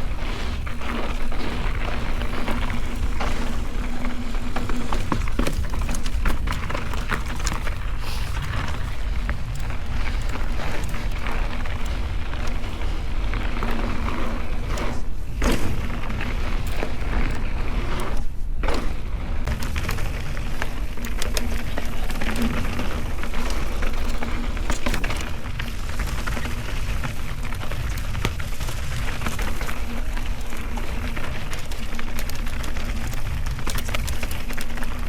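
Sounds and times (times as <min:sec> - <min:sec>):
bike knocking and rattling: 0:00.0 - 0:35.0
tyres crackling over gravel: 0:00.0 - 0:35.0.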